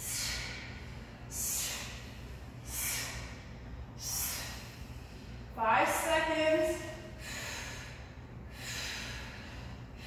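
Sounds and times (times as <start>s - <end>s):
person breathing forcefully: 0.0s - 5.6s, 7.0s - 10.0s.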